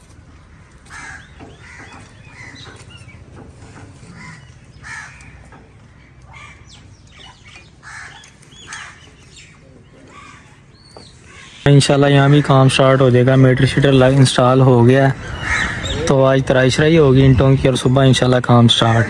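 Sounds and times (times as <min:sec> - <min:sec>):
birds calling and chirping: 0:00.0 - 0:19.0.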